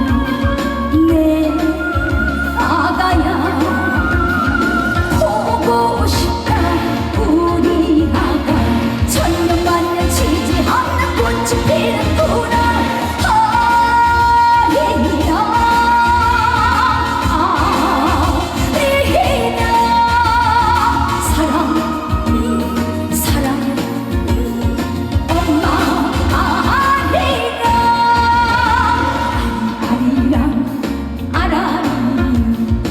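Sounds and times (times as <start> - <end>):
woman singing with vibrato: 0.0 - 32.9
steady drum beat: 3.2 - 31.0
band playing: 4.0 - 31.2.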